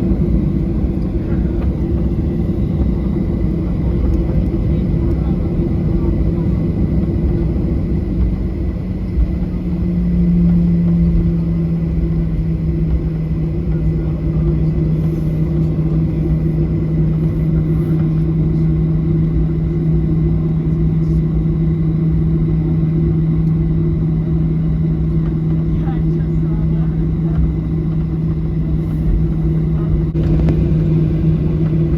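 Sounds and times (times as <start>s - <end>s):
jet engine drone in cabin: 0.0s - 31.9s.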